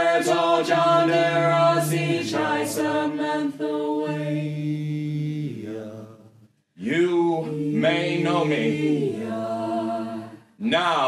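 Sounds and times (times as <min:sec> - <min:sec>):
mixed voices singing in chord: 0:00.0 - 0:10.7.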